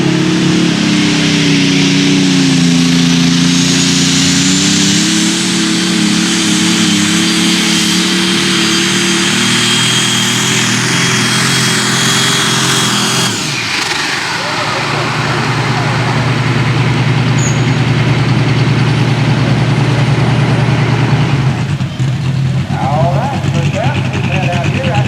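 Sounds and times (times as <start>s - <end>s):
tractor engine running hard: 0.0s - 25.0s
turbocharger whistle: 0.0s - 25.0s.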